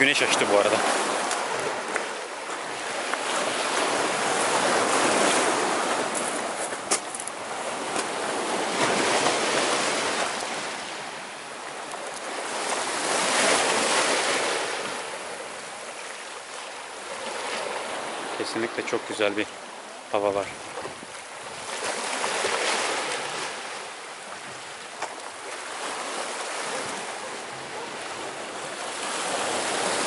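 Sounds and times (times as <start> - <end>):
waves on pebbly shore: 0.0 - 30.0.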